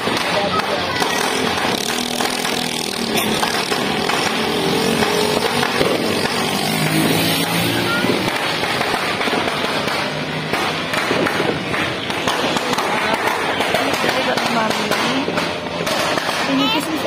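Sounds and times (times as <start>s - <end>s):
steady background noise: 0.0s - 17.0s
motorcycle engine running: 0.4s - 16.0s.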